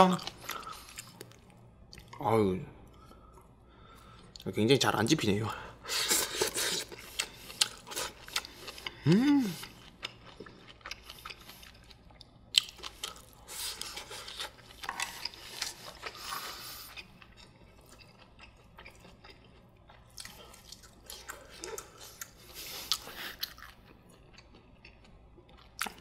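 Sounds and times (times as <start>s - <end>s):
close chewing and mouth sounds: 0.0s - 4.5s, 5.4s - 26.0s.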